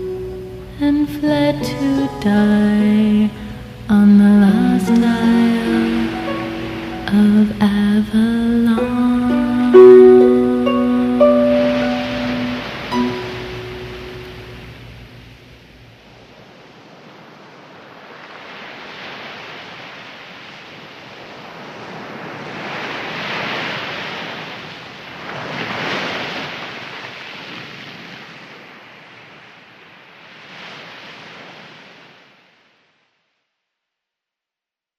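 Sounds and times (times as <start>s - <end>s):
surf waves washing in: 0.0s - 32.9s.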